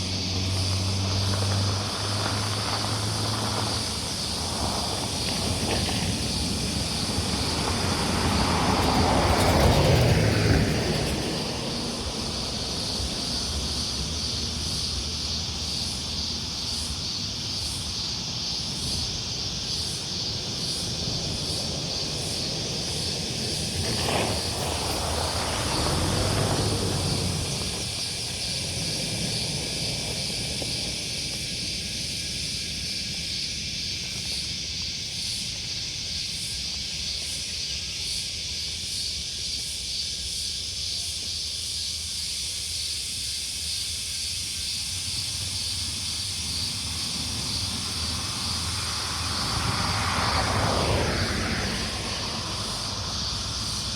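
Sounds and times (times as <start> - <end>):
vehicle passing: 0.0 - 36.1, 44.8 - 53.9
insect chirp: 0.0 - 53.9.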